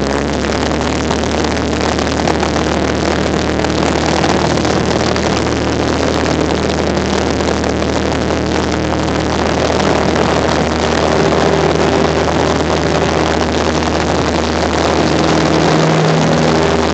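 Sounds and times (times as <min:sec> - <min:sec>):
airplane engine and propeller drone: 0:00.0 - 0:16.9.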